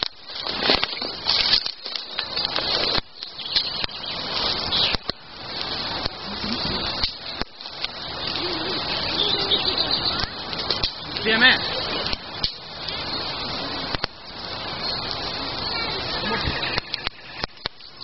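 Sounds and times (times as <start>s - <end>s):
birds calling: 0.0s - 18.0s
campfire crackling: 0.0s - 18.0s.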